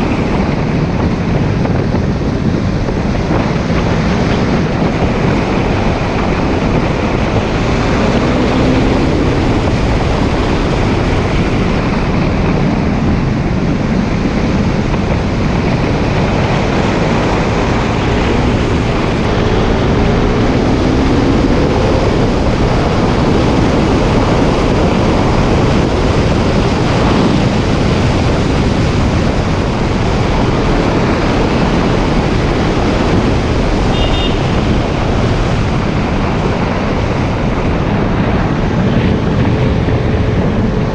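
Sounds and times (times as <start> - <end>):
motorcycle engine accelerating: 0.0 - 40.9
wind rushing over microphone: 0.0 - 40.9.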